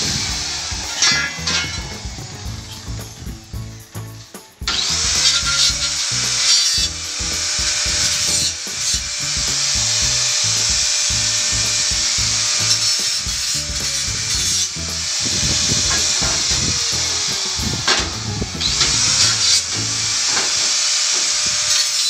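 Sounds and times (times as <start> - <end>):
background music with a beat: 0.0 - 20.4
angle grinder cutting steel: 0.0 - 22.0.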